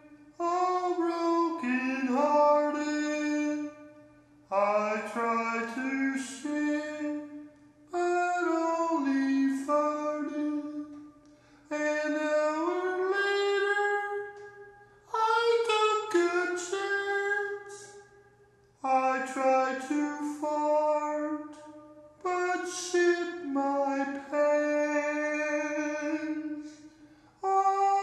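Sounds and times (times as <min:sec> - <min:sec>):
faint steady hum: 0:00.0 - 0:28.0
slow singing-like melody: 0:00.0 - 0:28.0.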